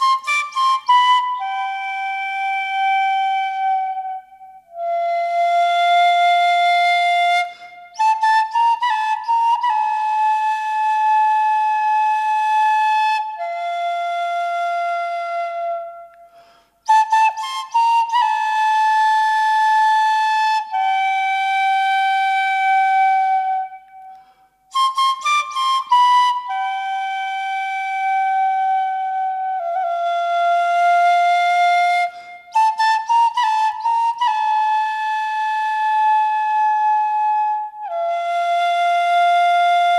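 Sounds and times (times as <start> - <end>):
bamboo flute melody: 0.0 - 39.9.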